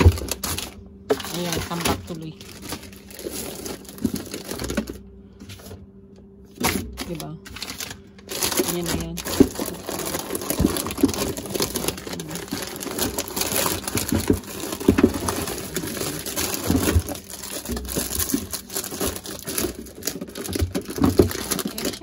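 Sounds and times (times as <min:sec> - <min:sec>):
packs knocking on shelf: 0:00.0 - 0:05.0, 0:07.7 - 0:22.0
plastic packages crinkling: 0:00.0 - 0:05.8, 0:06.4 - 0:22.0.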